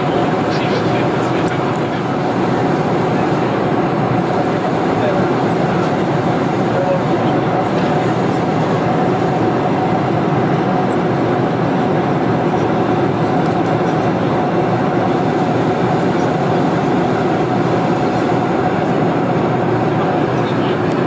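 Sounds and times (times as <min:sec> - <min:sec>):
airplane cabin engine noise: 0:00.0 - 0:21.0.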